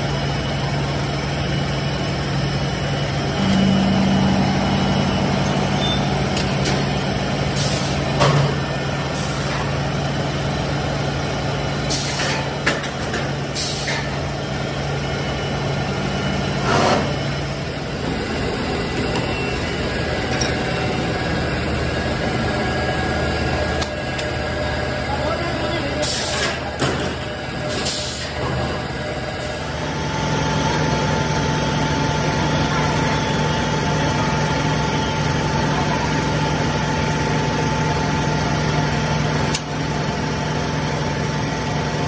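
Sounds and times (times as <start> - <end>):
machinery humming: 0.0 - 12.6, 13.2 - 42.0.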